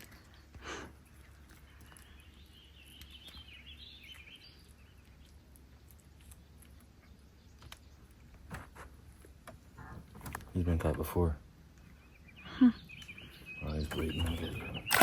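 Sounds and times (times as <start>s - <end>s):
bird chirping: 0.0s - 8.9s, 11.7s - 15.0s.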